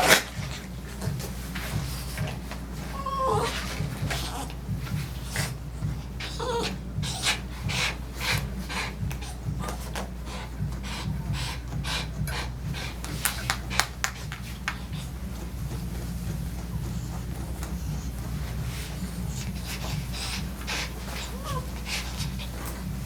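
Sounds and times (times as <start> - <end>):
grooming tool rubbing dog's coat: 0.0 - 23.0
low steady hum: 0.0 - 23.0.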